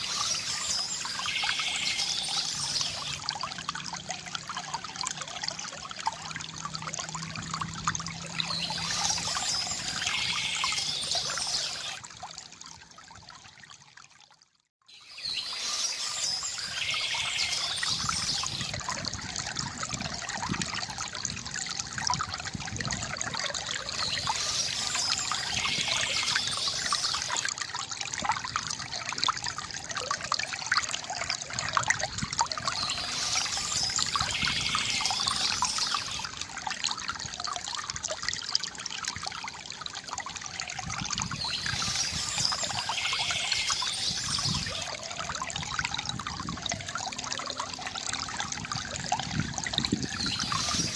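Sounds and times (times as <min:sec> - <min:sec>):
fountain water trickling and splashing: 0:00.0 - 0:50.9.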